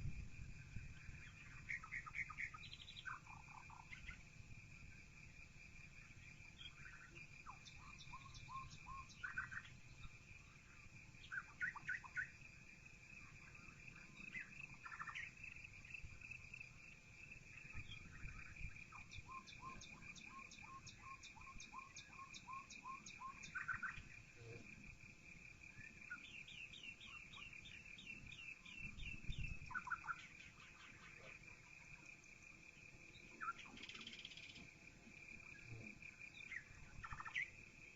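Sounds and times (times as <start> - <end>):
birds chirping and trilling: 0.7 - 4.3, 6.1 - 12.4, 13.2 - 15.6, 17.5 - 24.3, 25.7 - 34.8, 35.5 - 37.6.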